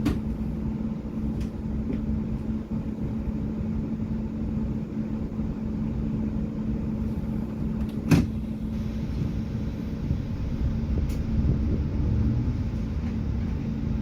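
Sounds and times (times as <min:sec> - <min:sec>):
bus engine and road rumble: 0:00.0 - 0:14.0
constant low hum: 0:00.0 - 0:14.0.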